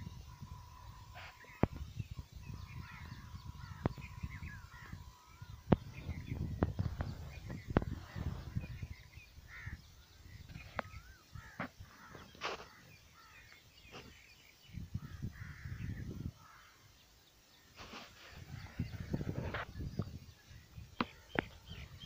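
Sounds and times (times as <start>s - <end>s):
birds calling: 0.0s - 22.0s.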